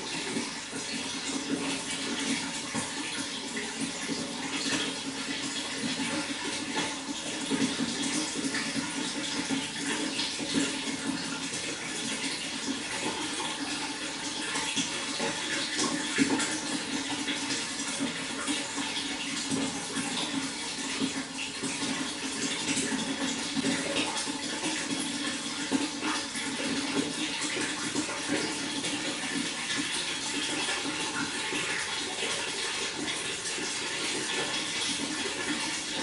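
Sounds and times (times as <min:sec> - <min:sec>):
water flowing: 0:00.0 - 0:36.0.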